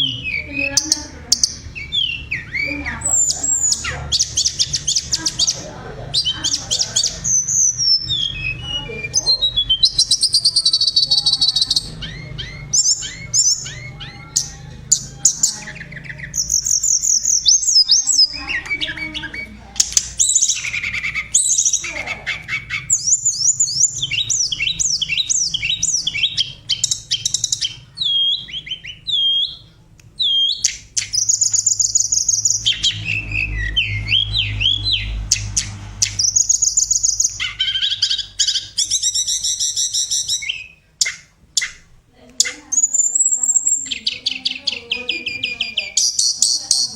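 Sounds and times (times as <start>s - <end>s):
bird singing high chirps and trills: 0.0s - 46.9s.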